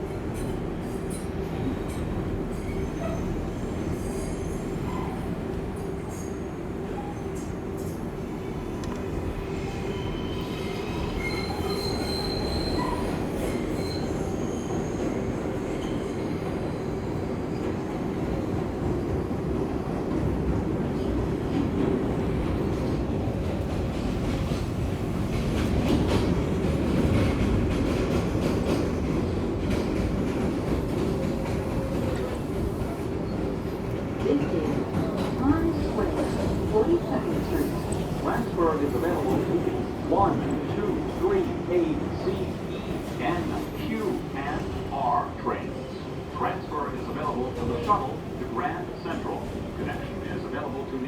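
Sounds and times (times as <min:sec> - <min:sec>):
steel wheels rumbling on rail: 0:00.0 - 0:51.0.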